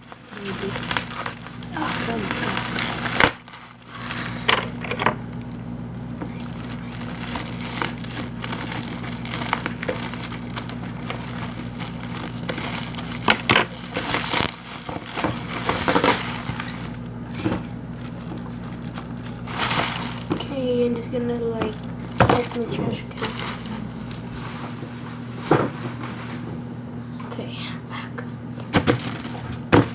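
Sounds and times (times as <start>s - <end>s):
packaging snapping and crackling: 0.0s - 20.5s, 21.6s - 24.3s, 28.6s - 29.9s
cardboard and plastic crinkling: 0.0s - 26.5s, 28.6s - 29.9s
steady low hum: 0.0s - 29.9s.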